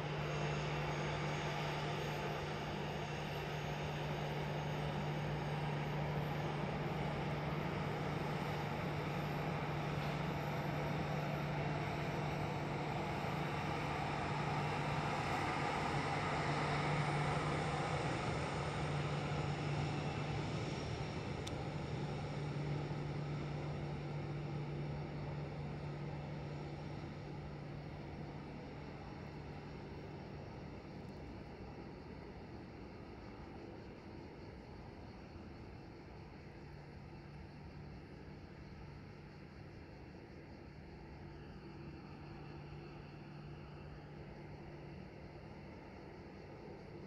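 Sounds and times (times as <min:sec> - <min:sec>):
distant jet engines humming: 0:00.0 - 0:47.0.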